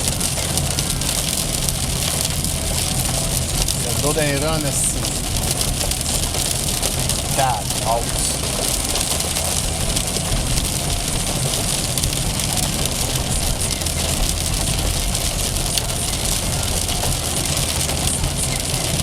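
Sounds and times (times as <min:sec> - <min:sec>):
car engine rumble: 0:00.0 - 0:19.0
heavy rain pelting a car: 0:00.0 - 0:19.0
tyres on a flooded road: 0:00.0 - 0:19.0.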